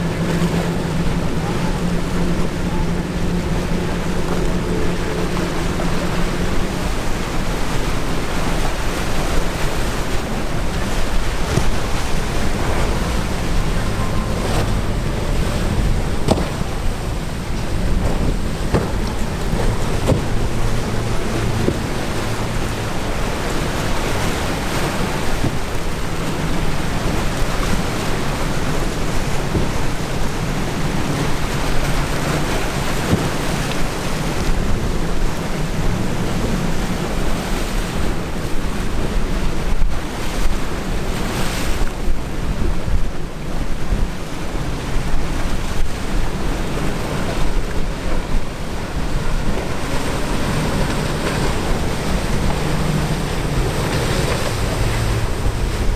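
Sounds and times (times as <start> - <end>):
boat motors rumbling: 0.0 - 55.9
surf breaking: 0.0 - 55.9
wind buffeting microphone: 0.0 - 55.9.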